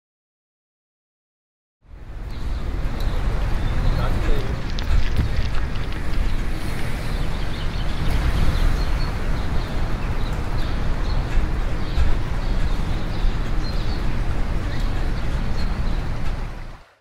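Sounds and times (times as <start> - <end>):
wind rumble on microphone: 1.9 - 17.0
small birds chirping: 2.2 - 16.8.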